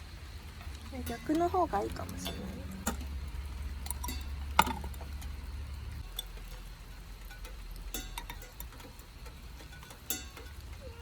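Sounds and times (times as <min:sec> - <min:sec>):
low steady hum: 0:00.0 - 0:11.0
small hard object clinking: 0:00.6 - 0:11.0.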